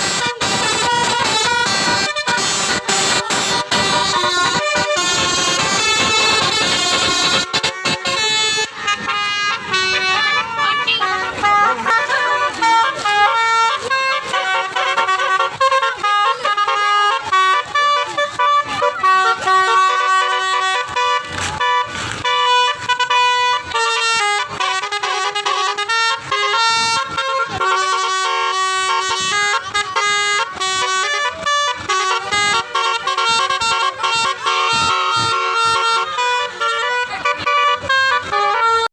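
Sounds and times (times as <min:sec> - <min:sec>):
musical air horn playing tune: 0:00.0 - 0:38.9.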